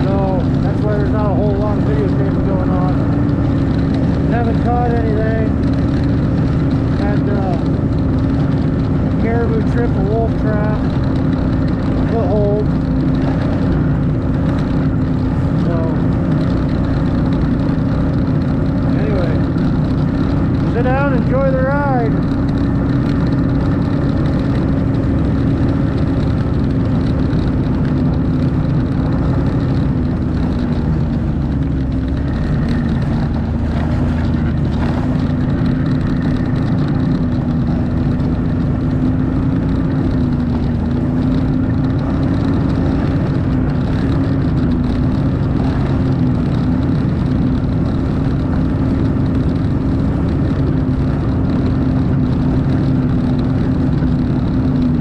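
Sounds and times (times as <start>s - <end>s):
snowmobile engine droning: 0.0s - 55.0s.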